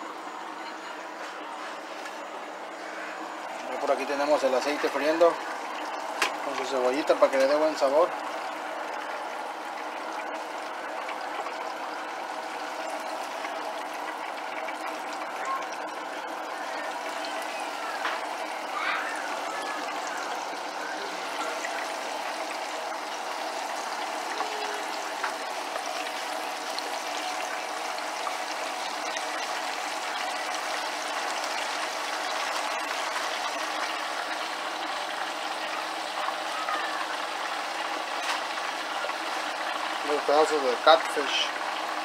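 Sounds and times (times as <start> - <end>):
oil popping: 2.8 - 42.0
oil sizzling in a pan: 2.8 - 42.0.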